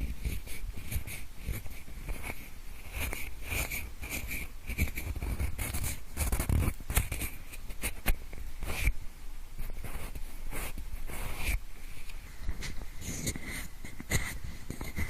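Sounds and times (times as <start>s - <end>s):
pencil scratching and rubbing: 0.0s - 9.0s, 9.6s - 15.0s.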